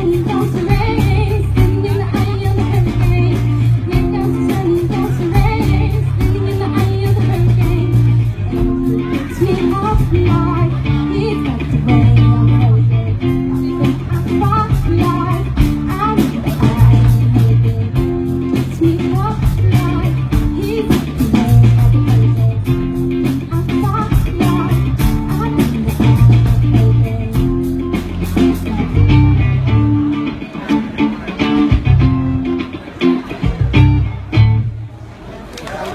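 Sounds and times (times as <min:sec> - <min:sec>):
instrumental pop-rock music: 0:00.0 - 0:34.9.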